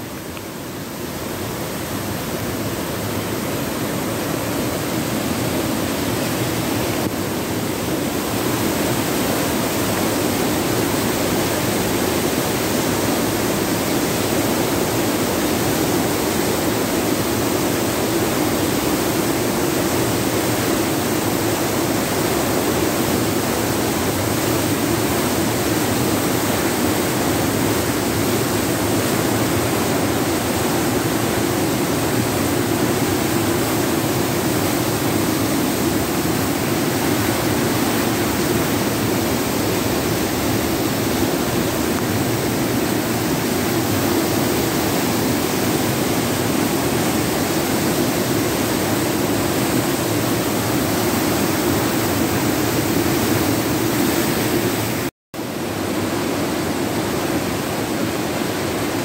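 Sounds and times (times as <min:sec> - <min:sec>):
floodwater rushing: 0:00.7 - 0:59.0.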